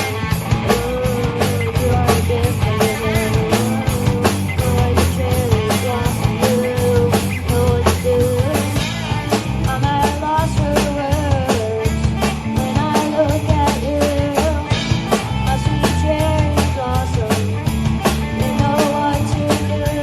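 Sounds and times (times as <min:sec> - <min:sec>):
drum kit fast beat: 0:02.5 - 0:20.0.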